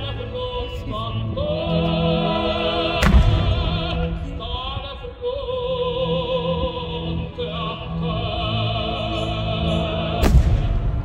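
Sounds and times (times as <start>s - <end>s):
operatic voice singing: 0.0s - 11.0s
orchestral accompaniment: 0.0s - 11.0s.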